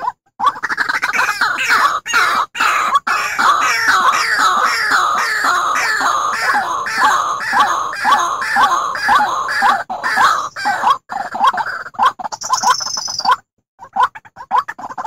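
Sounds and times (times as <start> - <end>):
bird harsh repeated calls: 0.0 - 15.0.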